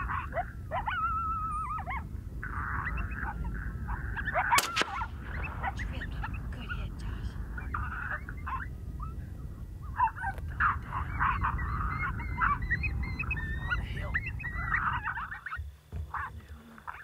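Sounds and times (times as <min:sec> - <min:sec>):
coyotes yipping and howling: 0:00.0 - 0:17.0
wind rumble on microphone: 0:00.0 - 0:17.0.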